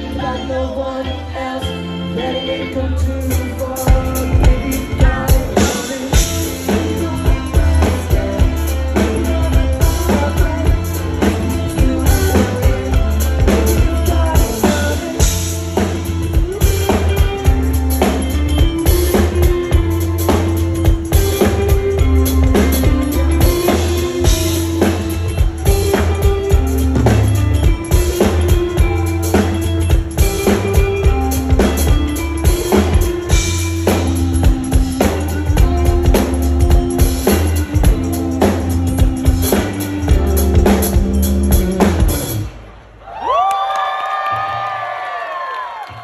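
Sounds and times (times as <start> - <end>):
live rock band: 0.0 - 46.0.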